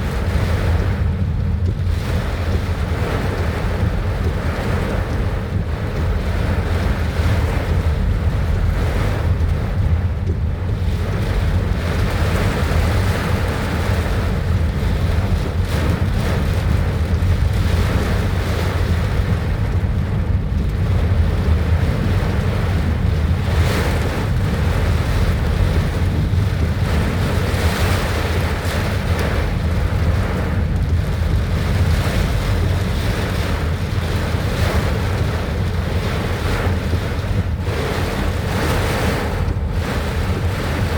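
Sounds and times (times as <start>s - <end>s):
heavy rain: 0.0s - 40.9s
wind buffeting microphone: 0.0s - 40.9s.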